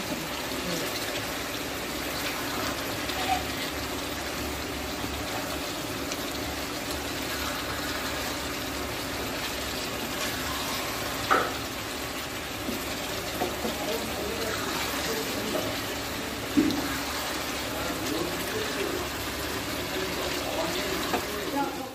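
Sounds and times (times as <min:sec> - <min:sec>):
curry sizzling in a pan: 0:00.0 - 0:21.9
wooden spatula stirring: 0:00.0 - 0:21.9.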